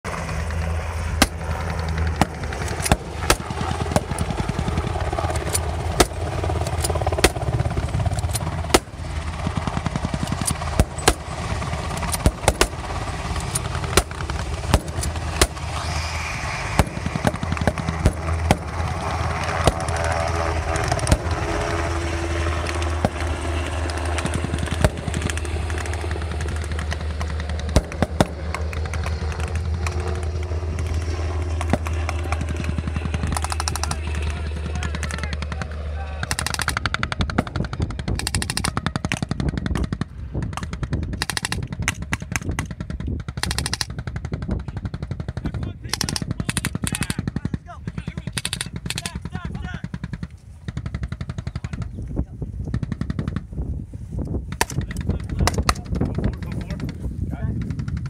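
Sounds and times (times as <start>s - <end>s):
helicopter rotor and turbine drone: 0.0s - 58.0s
sharp cracks: 0.1s - 52.0s, 54.5s - 56.9s.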